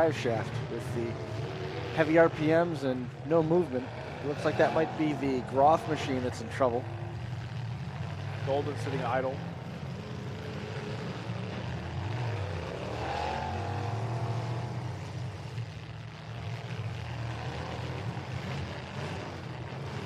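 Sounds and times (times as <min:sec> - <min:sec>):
engine revving: 0:00.0 - 0:20.0
truck engines rumbling: 0:00.0 - 0:20.0.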